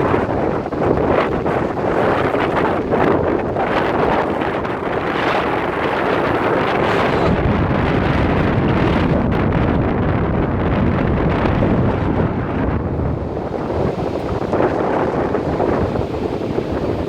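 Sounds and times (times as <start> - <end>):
sea waves washing on beach: 0.0 - 17.0
wind rumbling on microphone: 0.0 - 17.0.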